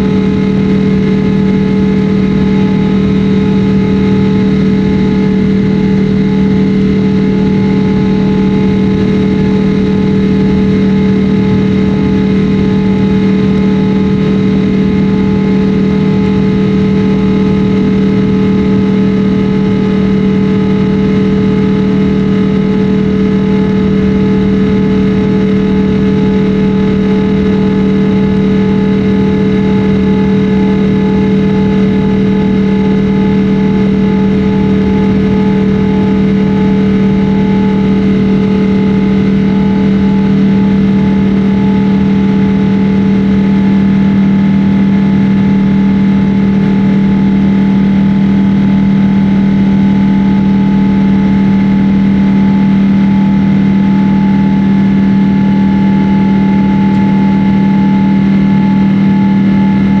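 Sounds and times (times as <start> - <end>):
jet engines droning in cabin: 0.0 - 60.0.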